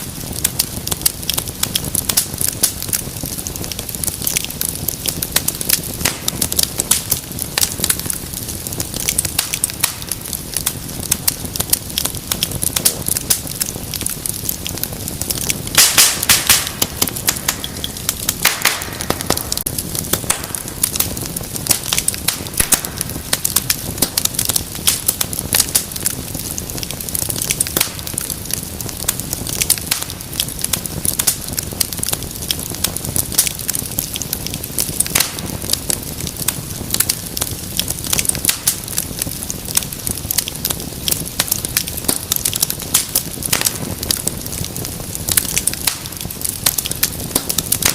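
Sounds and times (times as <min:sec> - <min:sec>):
hiss of flames: 0:00.0 - 0:47.9
wood fire crackling: 0:00.0 - 0:47.9.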